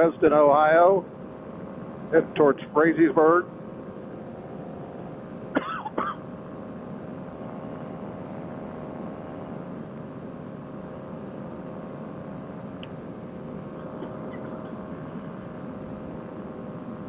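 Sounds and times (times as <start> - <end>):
paramotor engine droning: 0.0 - 17.0.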